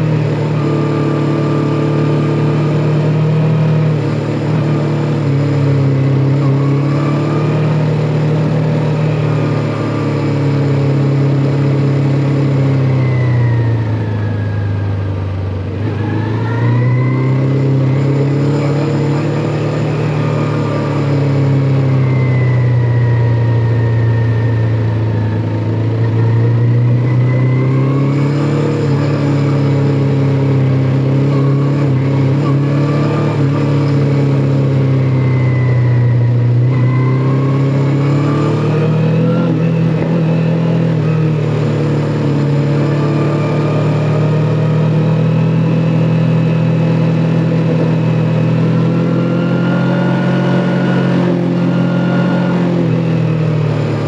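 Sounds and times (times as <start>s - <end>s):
motorcycle engine on road: 0.0s - 54.0s.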